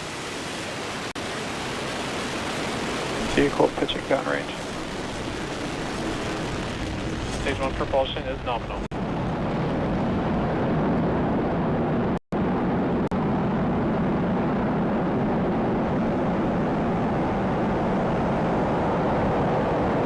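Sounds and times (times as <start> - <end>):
rocket engine rumbling: 0.4 - 20.0.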